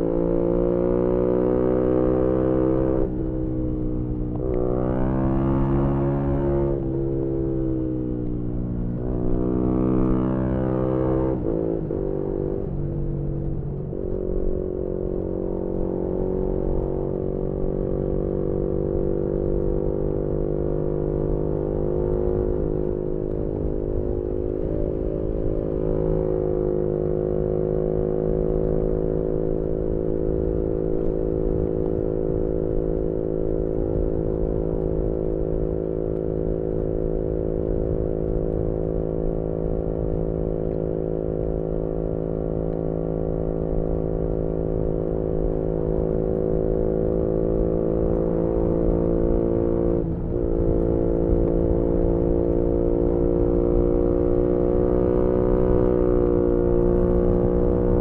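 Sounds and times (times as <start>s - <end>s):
motorcycle engine revving: 8.8s - 58.0s.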